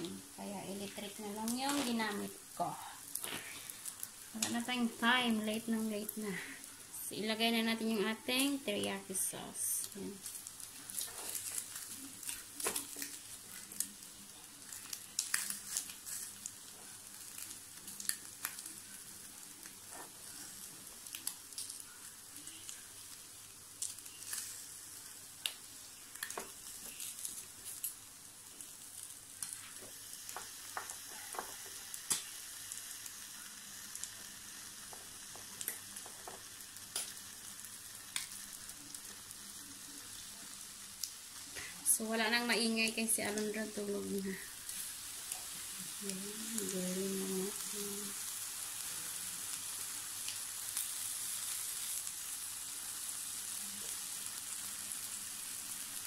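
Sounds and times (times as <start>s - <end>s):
ribs sizzling on grill: 0.0s - 56.0s.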